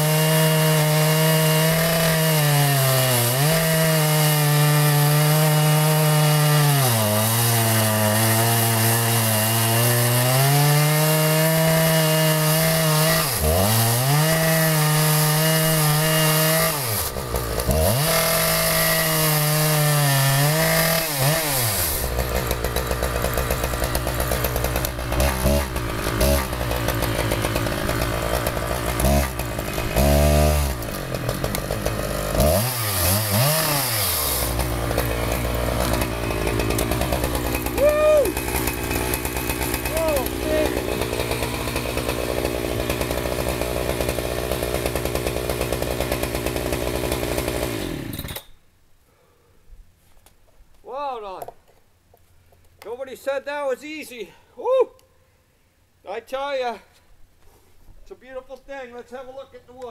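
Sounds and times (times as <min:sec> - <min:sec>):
chainsaw cutting a log: 0:00.0 - 0:48.6.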